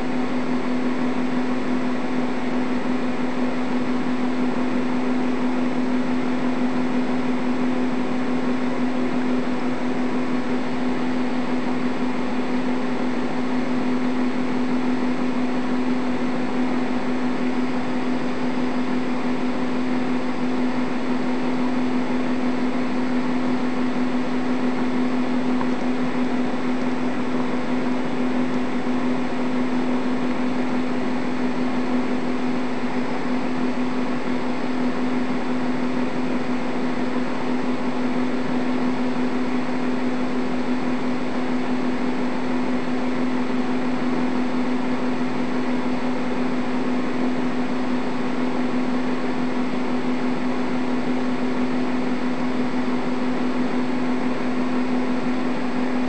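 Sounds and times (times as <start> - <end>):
machine whir with hum and whine: 0.0 - 56.0.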